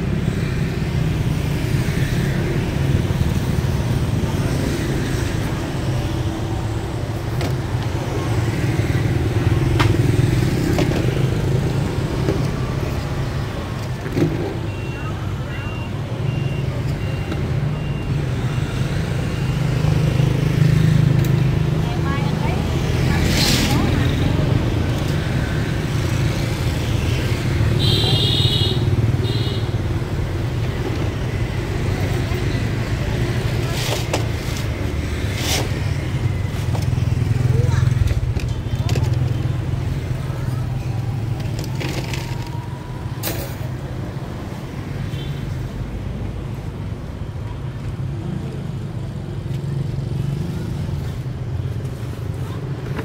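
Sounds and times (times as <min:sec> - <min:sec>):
low traffic rumble: 0:00.0 - 0:53.0
motorbikes passing: 0:00.0 - 0:53.0.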